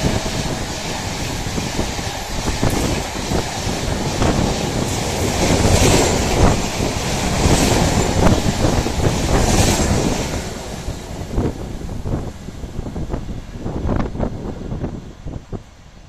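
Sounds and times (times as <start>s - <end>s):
train rushing past: 0.0s - 16.0s
wind buffeting microphone: 0.0s - 16.0s.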